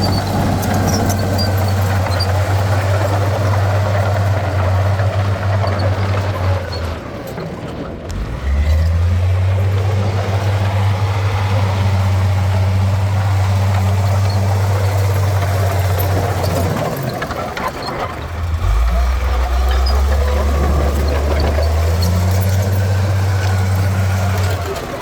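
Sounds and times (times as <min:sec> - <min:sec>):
diesel machine engine running: 0:00.0 - 0:25.0.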